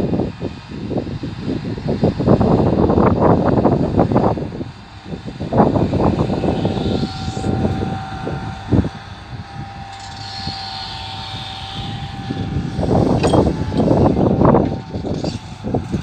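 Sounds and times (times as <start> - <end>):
excavator engine and hydraulics: 0.0 - 16.0.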